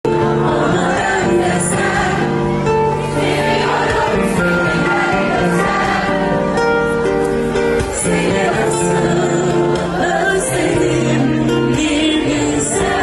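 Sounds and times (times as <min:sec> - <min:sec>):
group singing over instruments: 0:00.1 - 0:06.8, 0:07.6 - 0:13.0.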